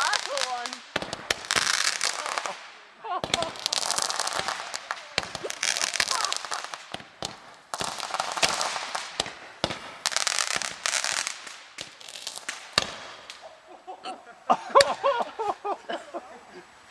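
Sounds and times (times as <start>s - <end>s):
single firework crack: 0.0s - 13.6s, 14.7s - 15.1s
roman candles fizzing and popping: 0.0s - 16.9s
voices shouting: 0.0s - 16.9s.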